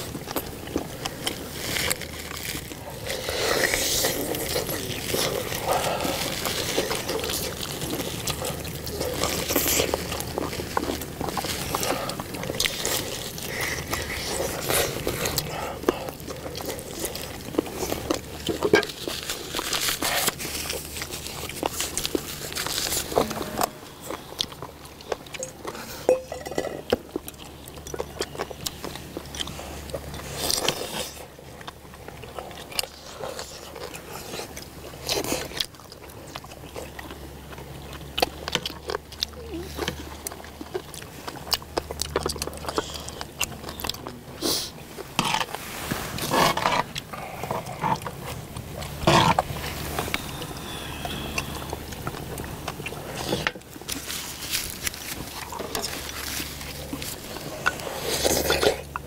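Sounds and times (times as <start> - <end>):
people chewing with wet smacks: 0.0 - 59.0.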